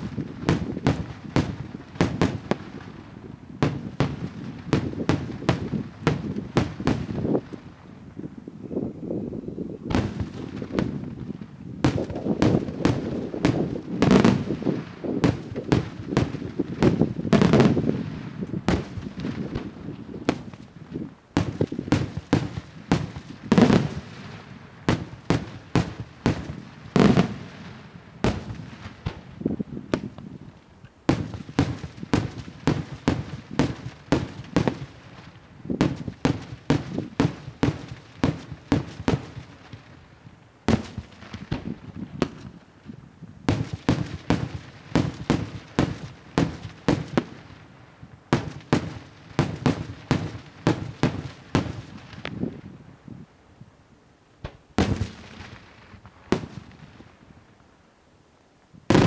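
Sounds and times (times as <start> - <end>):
fireworks bangs: 0.0 - 7.7, 9.9 - 30.4, 31.0 - 40.0, 40.7 - 42.6, 43.4 - 52.6, 54.4 - 57.1
loud fireworks booms: 0.0 - 8.3, 9.9 - 40.0, 40.6 - 52.8, 54.4 - 57.4.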